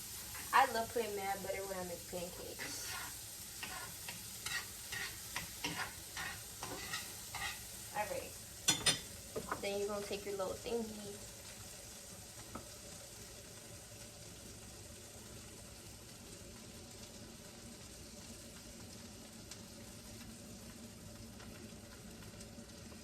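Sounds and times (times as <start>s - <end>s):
batter sizzling in a frying pan: 0.0s - 23.0s.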